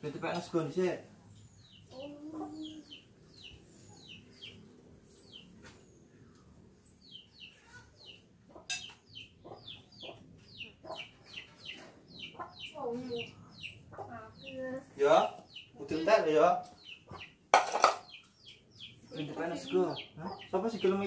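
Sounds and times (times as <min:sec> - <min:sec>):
chicks peeping: 0:01.4 - 0:21.0.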